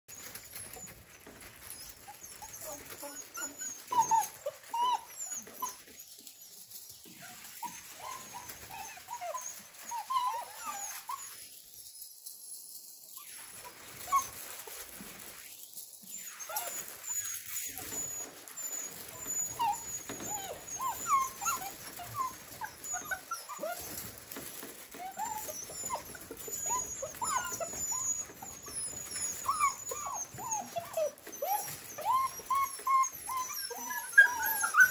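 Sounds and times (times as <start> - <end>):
puppies whining and whimpering: 0.1 - 34.9.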